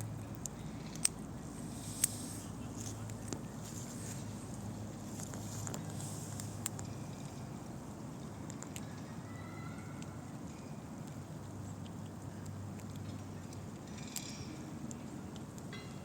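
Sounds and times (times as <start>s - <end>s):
squirrel cracking nut shells: 0.0s - 9.3s, 9.9s - 16.0s
low outdoor rumble: 0.0s - 16.0s.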